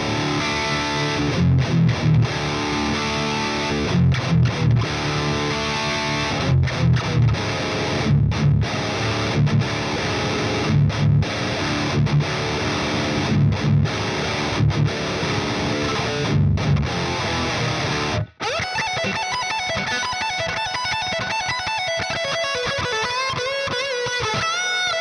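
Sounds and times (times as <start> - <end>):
distorted electric guitar riffs: 0.0 - 25.0.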